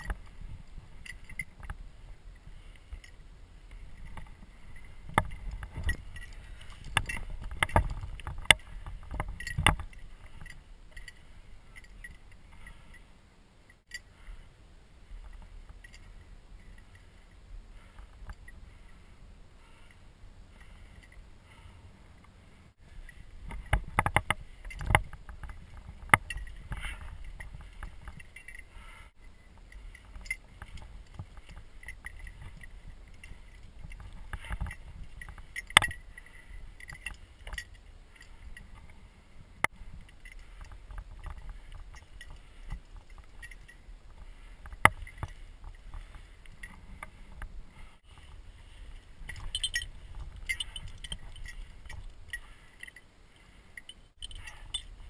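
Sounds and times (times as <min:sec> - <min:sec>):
climbing gear scraping on rock: 0:00.0 - 0:13.1, 0:22.7 - 0:55.0.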